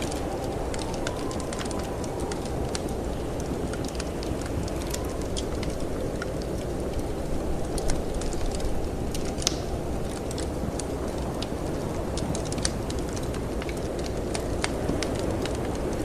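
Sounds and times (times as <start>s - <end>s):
rushing snowstorm wind: 0.0s - 16.0s
wood fire crackling and popping: 0.0s - 16.0s.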